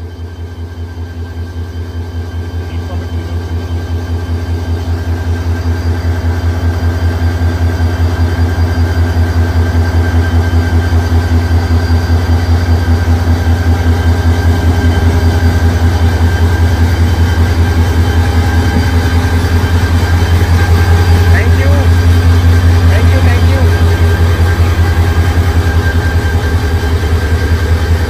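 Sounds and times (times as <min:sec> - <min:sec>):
diesel locomotive engine throbbing: 0:00.0 - 0:28.0.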